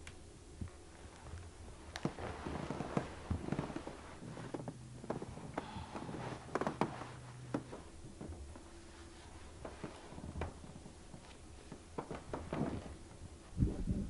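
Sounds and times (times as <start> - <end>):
duvet rustling: 0.7 - 13.9.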